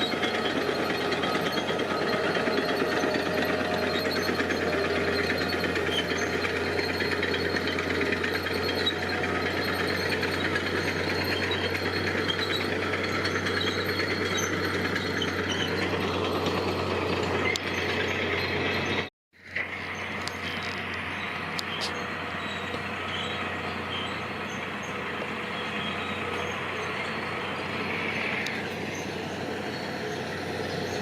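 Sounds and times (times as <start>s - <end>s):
diesel engine rattling: 0.0s - 31.0s.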